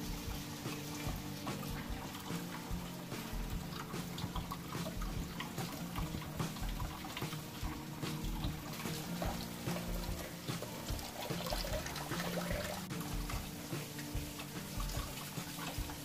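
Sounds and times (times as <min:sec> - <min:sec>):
tap water trickling into sink: 0:00.0 - 0:16.0
water splashing: 0:00.0 - 0:16.0.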